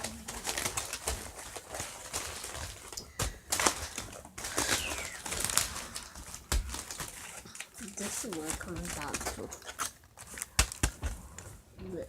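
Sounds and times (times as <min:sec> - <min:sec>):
craft pieces rustling: 0:00.0 - 0:11.5.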